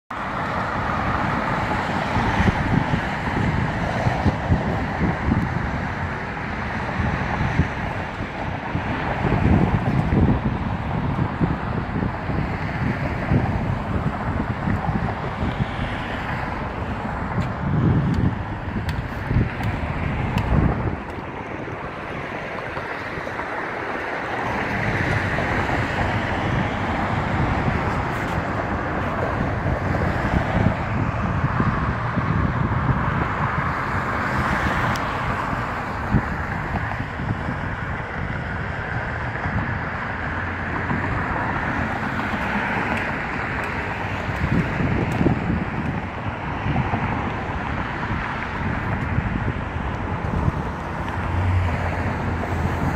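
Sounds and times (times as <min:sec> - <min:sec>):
diesel engine rumble: 0:00.1 - 0:52.9
steady background noise: 0:00.1 - 0:52.9
wind buffeting microphone: 0:00.1 - 0:52.9.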